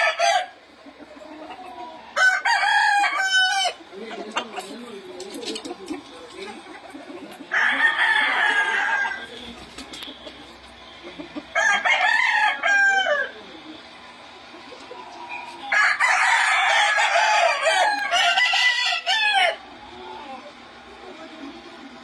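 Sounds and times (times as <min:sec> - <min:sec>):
roosters crowing: 0:00.0 - 0:22.0.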